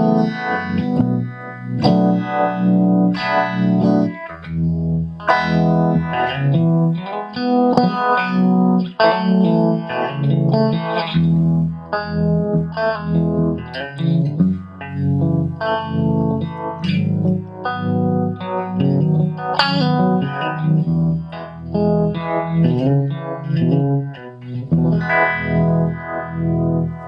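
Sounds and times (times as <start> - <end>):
electric guitar strummed chords: 0.0 - 27.0.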